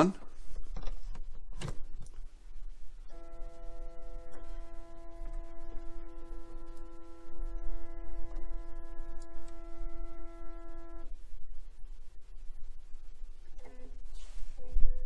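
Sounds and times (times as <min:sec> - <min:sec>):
steady humming tone: 0:00.0 - 0:15.0.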